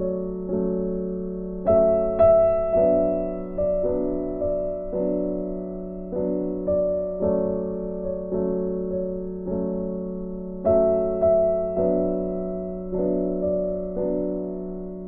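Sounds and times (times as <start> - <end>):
soft keyboard chords: 0.0 - 15.0.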